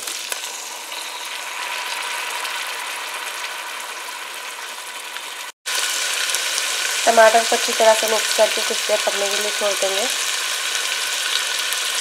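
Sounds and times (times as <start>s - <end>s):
tomatoes sizzling in oil: 0.0s - 12.0s.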